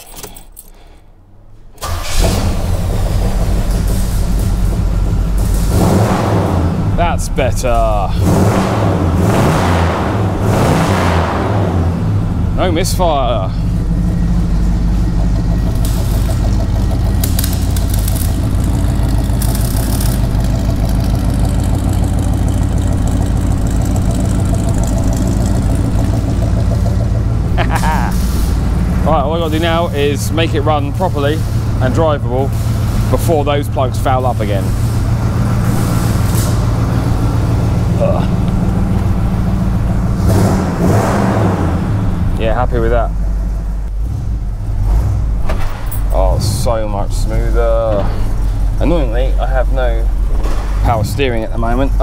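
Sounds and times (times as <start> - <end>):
car engine starting and idling: 0.0 - 52.0.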